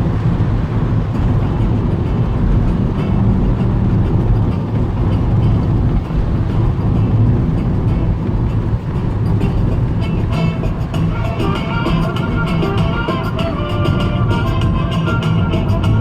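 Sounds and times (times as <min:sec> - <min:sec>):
car road rumble inside cabin: 0:00.0 - 0:16.0.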